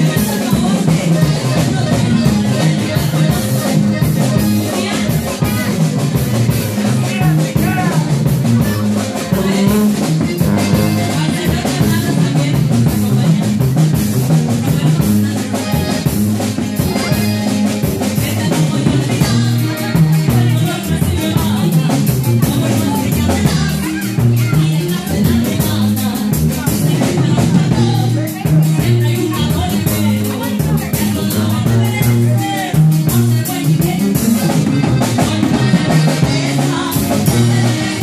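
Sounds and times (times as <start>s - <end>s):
accordion: 0.0s - 38.0s
drums: 0.0s - 38.0s
guitar: 0.0s - 38.0s
tuba bass line: 0.0s - 38.0s
woman singing into microphone: 0.0s - 38.0s.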